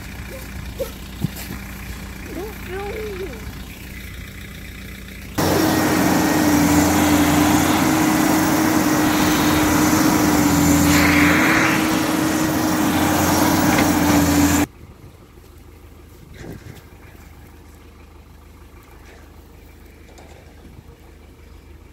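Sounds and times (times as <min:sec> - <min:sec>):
skid steer engine running hard: 0:00.0 - 0:21.9.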